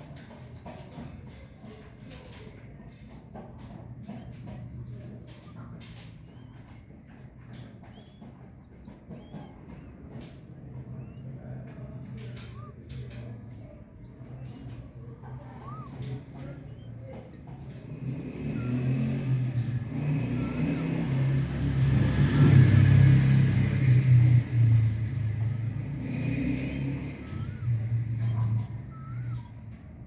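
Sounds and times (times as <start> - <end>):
small birds chirping: 0.0 - 30.0
vehicle engine rumble: 0.0 - 30.0.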